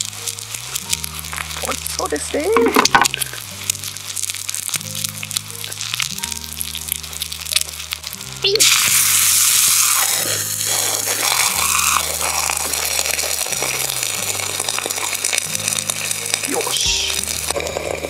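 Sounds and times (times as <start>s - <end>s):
background music with bass line: 0.0s - 8.6s, 10.2s - 18.0s
egg sizzling in a skillet: 0.0s - 18.0s.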